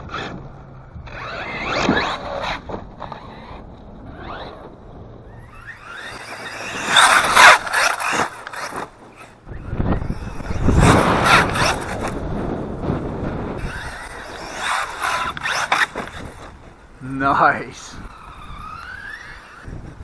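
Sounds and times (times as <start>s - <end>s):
electric motor whining: 0.0s - 20.0s
wind buffeting microphone: 0.0s - 20.0s.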